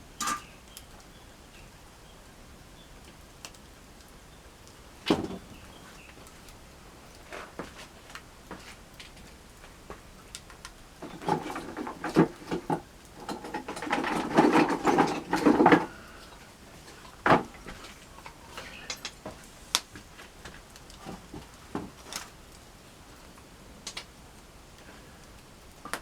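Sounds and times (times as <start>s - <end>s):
campfire wood cracking: 0.1s - 1.7s, 2.8s - 26.0s.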